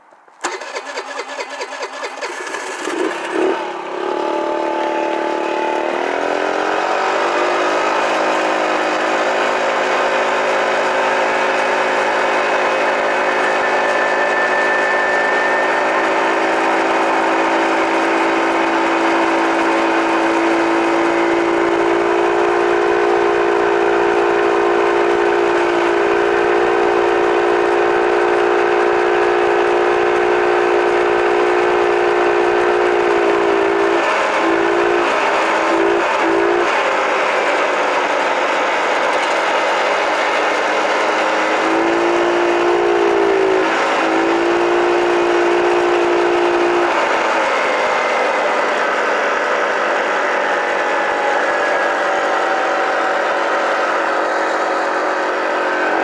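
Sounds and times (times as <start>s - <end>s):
mini bike engine whining: 0.4s - 56.0s.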